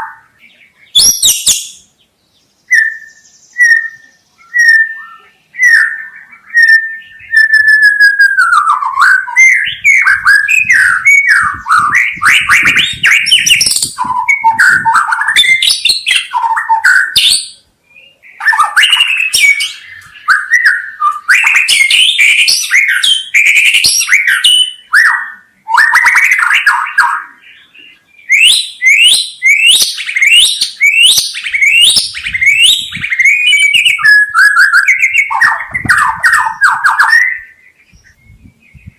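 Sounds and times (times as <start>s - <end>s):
shama singing whistles and trills: 0.0s - 2.0s, 2.6s - 38.9s.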